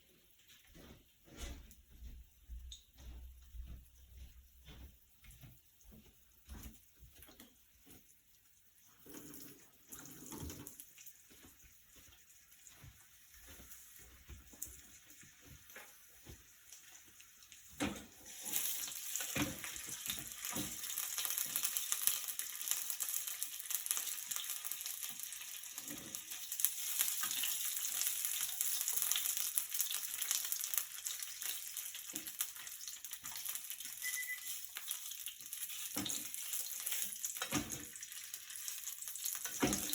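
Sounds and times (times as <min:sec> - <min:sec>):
food sizzling in a pan: 0:07.2 - 0:39.9.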